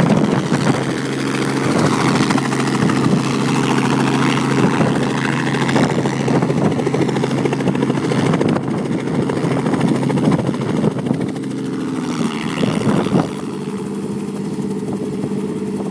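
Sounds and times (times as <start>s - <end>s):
helicopter engine and rotors drone: 0.0s - 15.9s.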